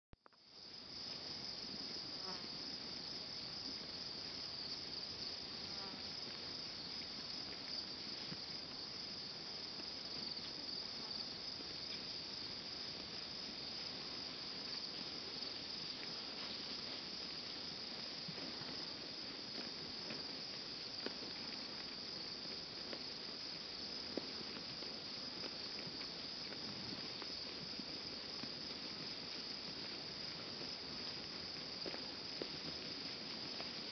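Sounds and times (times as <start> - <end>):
crickets chirping: 0.2 - 33.9.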